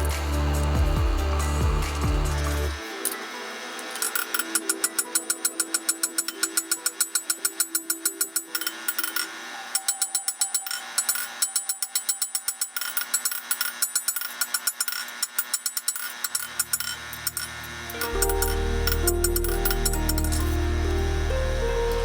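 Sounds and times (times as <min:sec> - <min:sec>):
music: 0:00.0 - 0:12.6, 0:16.6 - 0:22.0.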